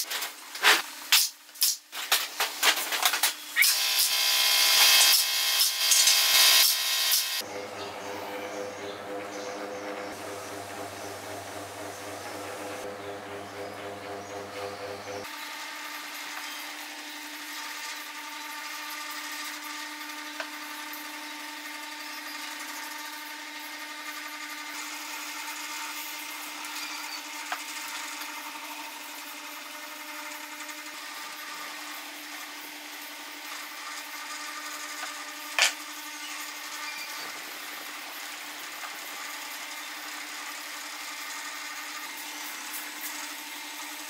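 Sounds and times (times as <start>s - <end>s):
power tool sanding wood: 3.7s - 44.0s.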